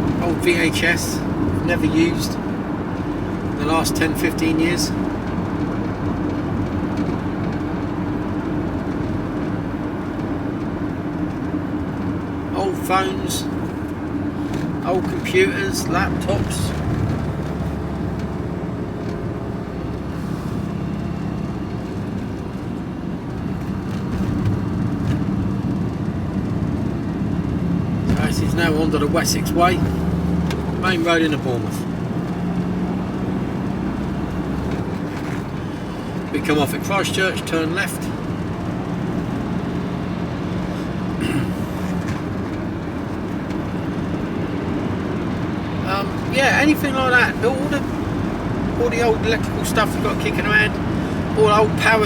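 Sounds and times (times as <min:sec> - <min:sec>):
van engine and road rumble: 0:00.0 - 0:52.0.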